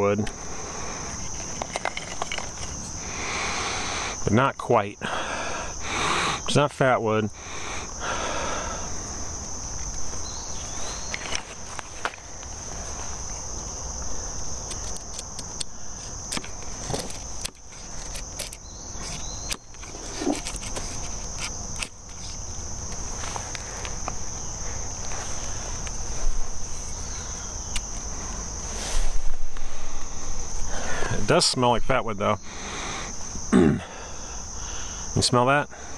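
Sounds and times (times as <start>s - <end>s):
high-pitched insect trill: 0.0s - 35.9s.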